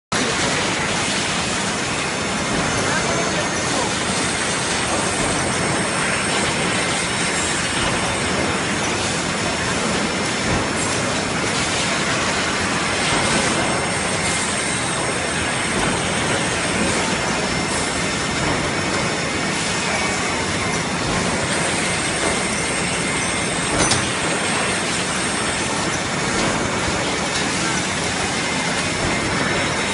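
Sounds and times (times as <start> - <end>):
machine whirring and hissing: 0.2 - 29.9.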